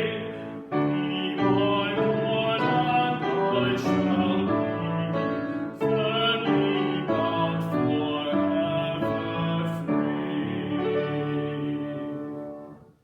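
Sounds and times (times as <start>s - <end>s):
person singing: 0.0s - 12.6s
piano accompaniment: 0.0s - 13.0s.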